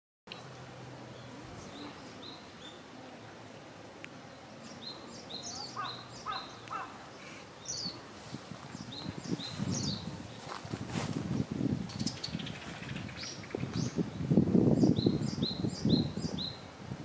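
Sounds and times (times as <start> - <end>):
small birds chirping: 0.3 - 3.3, 4.0 - 10.8, 11.4 - 16.7.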